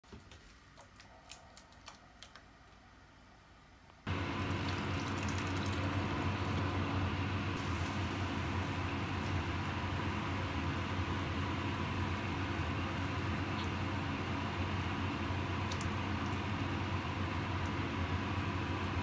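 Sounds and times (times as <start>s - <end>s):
appliance fan motor hum: 0.2s - 19.0s.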